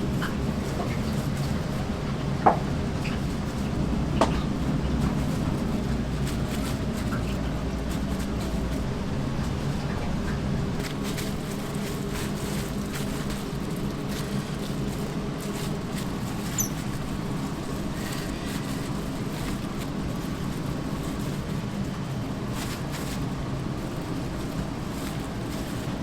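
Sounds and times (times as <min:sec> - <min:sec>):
low kitchen hum: 0:00.0 - 0:26.0.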